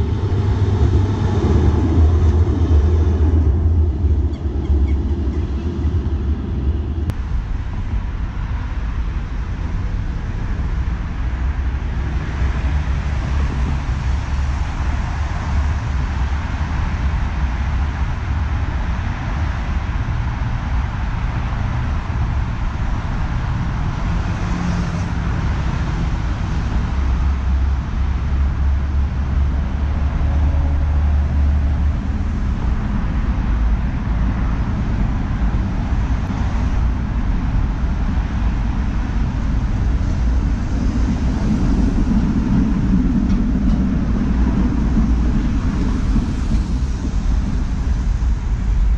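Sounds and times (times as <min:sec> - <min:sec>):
city road traffic: 0:00.0 - 0:48.9
deep uneven rumble: 0:00.0 - 0:48.9.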